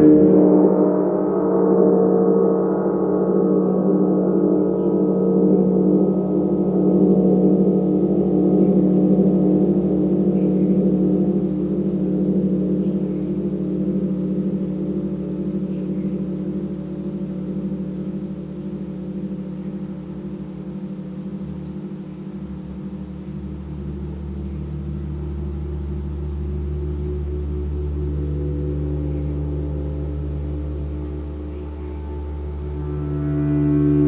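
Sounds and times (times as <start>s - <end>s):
large gong ringing: 0.0s - 34.0s.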